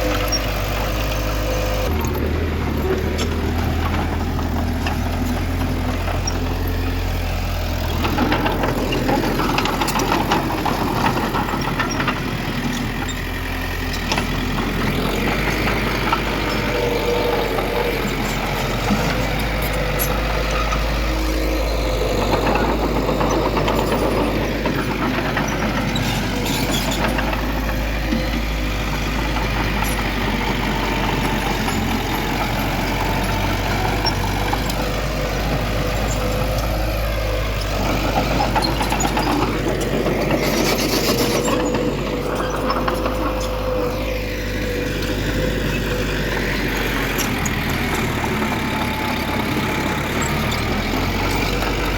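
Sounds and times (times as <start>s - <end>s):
diesel engine of heavy machinery: 0.0s - 51.9s.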